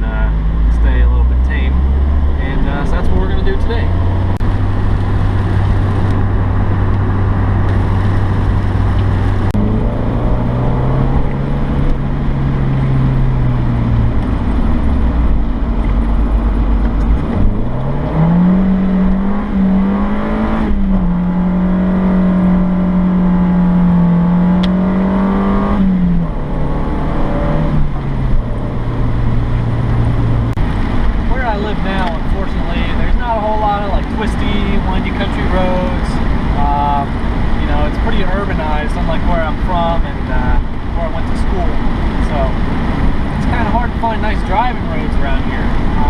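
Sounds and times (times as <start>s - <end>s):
car engine under throttle: 0.0s - 46.0s
road and tyre noise: 0.0s - 46.0s.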